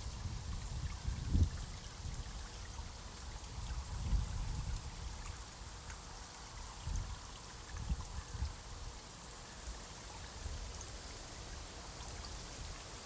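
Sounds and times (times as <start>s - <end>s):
constant high hiss: 0.0s - 13.0s
water trickling: 0.0s - 13.0s.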